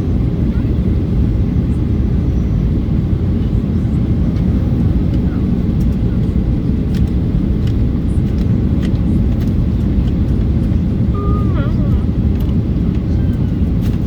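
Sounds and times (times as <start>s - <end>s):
airliner cabin roar: 0.0s - 14.0s.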